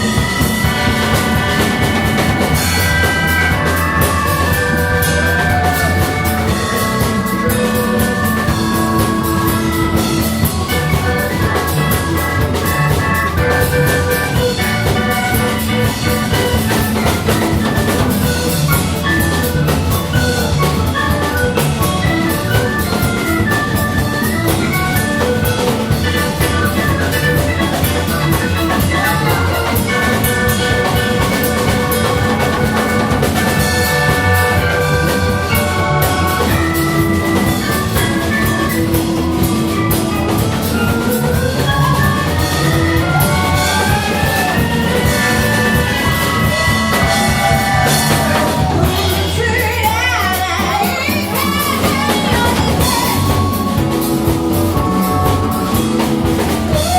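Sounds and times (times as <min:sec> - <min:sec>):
drum kit and cymbals: 0:00.0 - 0:56.9
instrumental ensemble music: 0:00.0 - 0:56.9.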